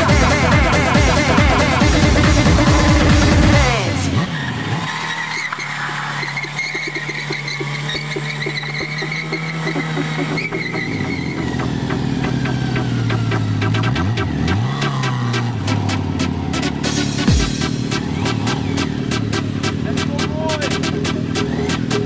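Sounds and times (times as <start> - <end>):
motorcycle engine revving: 0.0 - 22.0
tyre squealing on asphalt: 0.0 - 22.0.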